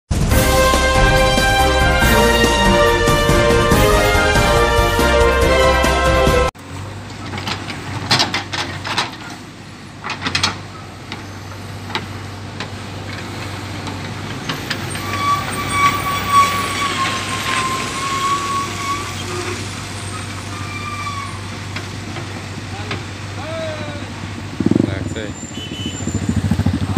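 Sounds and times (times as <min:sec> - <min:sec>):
diesel engine running: 0:00.1 - 0:26.9.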